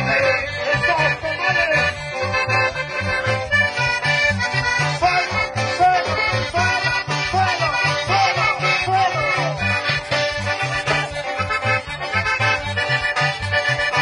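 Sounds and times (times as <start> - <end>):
accordion-led dance music: 0.0 - 14.0.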